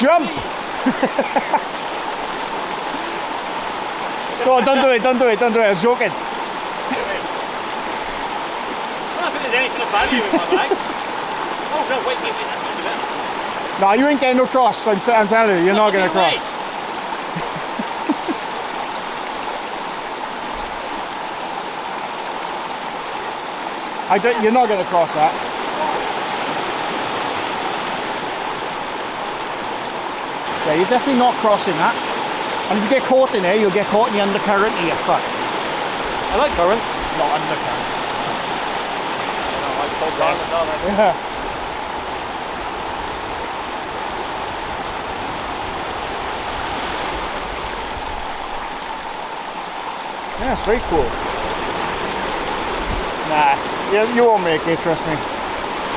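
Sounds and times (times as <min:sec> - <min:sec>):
river water rushing over rocks: 0:00.0 - 0:55.9.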